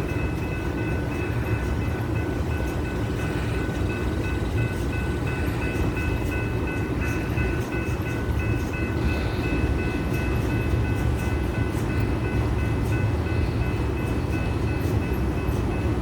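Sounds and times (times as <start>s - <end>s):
freight train cars rumbling: 0.0s - 16.0s.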